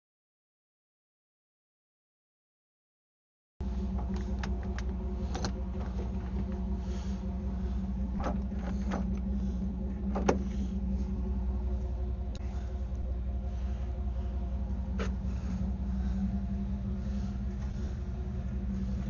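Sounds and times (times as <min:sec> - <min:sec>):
low mechanical hum: 0:03.6 - 0:19.0.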